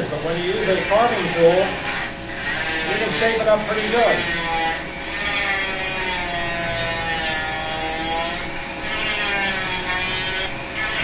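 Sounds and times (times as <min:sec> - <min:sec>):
rotary tool grinding wood: 0:00.0 - 0:11.0.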